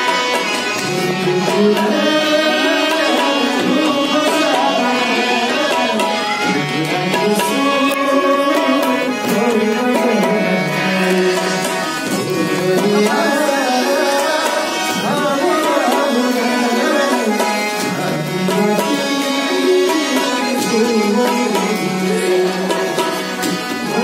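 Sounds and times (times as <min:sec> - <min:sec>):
harmonium: 0:00.0 - 0:24.0
man singing into a microphone: 0:00.0 - 0:24.0
tabla: 0:00.0 - 0:24.0.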